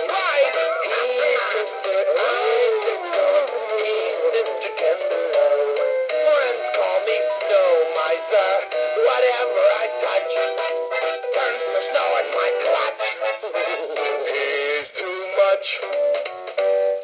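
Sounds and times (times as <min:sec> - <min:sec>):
tinny toy playing christmas song: 0:00.0 - 0:17.0.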